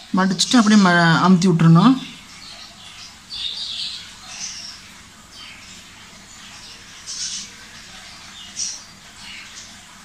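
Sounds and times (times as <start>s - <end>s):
small bird chirping: 2.0s - 10.0s.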